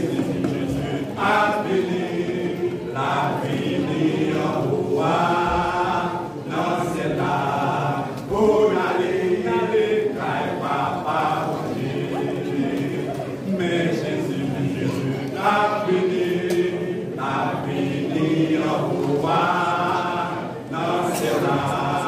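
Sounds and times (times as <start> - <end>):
men's gospel choir singing: 0.0 - 22.0.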